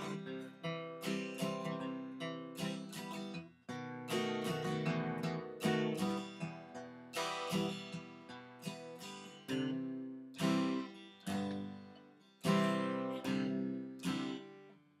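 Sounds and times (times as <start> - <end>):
acoustic guitar strumming chords: 0.0 - 14.8.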